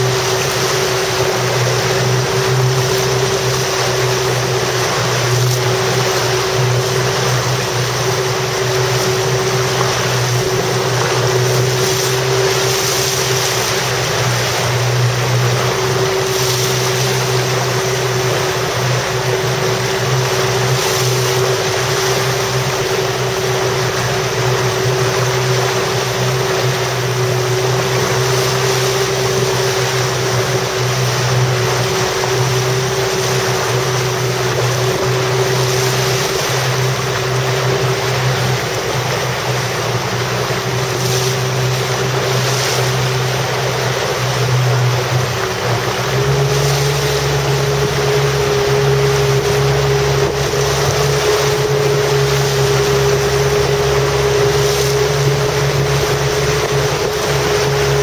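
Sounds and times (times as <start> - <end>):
motorboat engine running: 0.0 - 58.0
water noise: 0.0 - 58.0
wind: 0.0 - 58.0.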